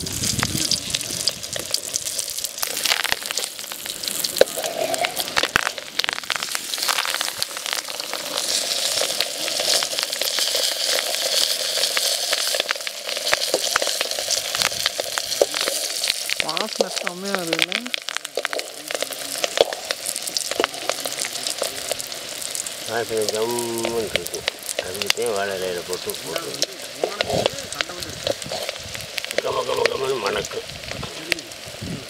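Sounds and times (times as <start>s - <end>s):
crackles and pops of frying: 0.0s - 32.0s
fish frying in oil: 0.0s - 32.0s.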